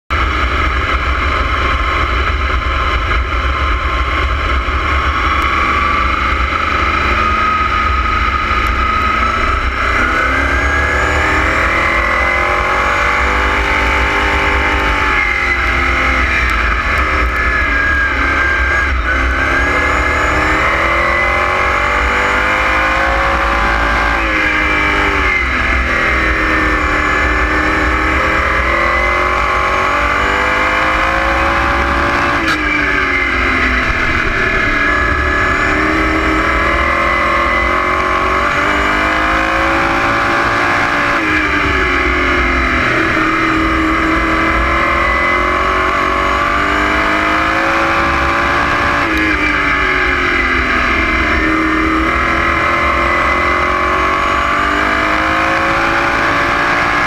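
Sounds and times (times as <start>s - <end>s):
constant low rumble: 0.1s - 54.6s
racing car engine revving: 0.1s - 57.0s.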